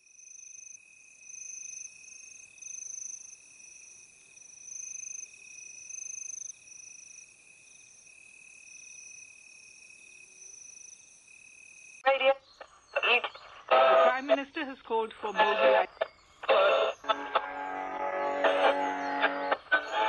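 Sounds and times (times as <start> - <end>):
crickets trilling: 0.0 - 20.0
higher cricket trill: 0.2 - 20.0.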